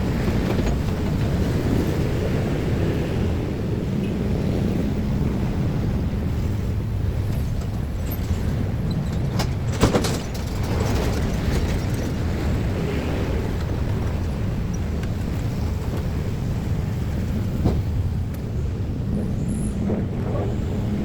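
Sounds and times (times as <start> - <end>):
train rumbling over crossing: 0.0 - 21.0.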